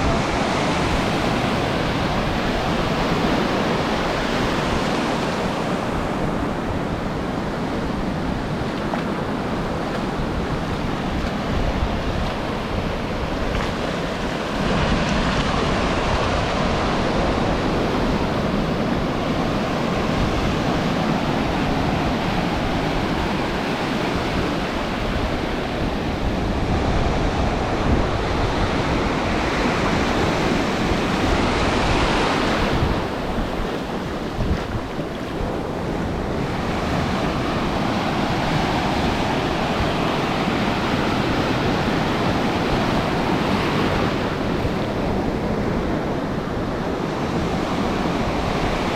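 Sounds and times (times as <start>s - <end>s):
ocean surf washing on beach: 0.0s - 48.9s
wind buffeting microphone: 0.0s - 48.9s.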